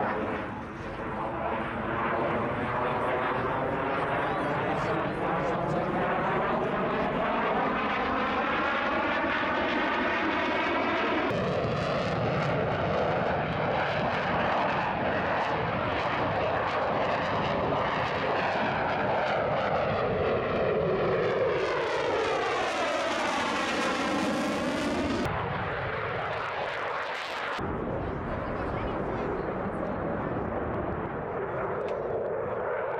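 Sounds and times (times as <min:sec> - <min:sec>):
fighter jet passing: 0:00.0 - 0:32.9.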